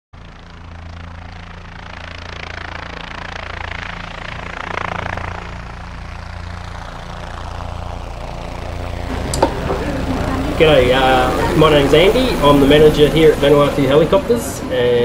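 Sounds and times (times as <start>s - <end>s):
helicopter engine and rotor: 0.2s - 15.0s.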